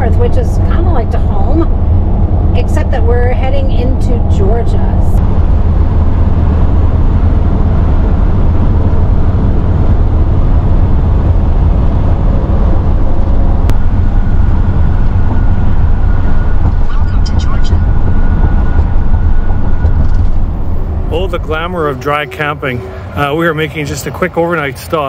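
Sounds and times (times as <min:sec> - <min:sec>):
camper van road and engine noise: 0:00.0 - 0:25.0.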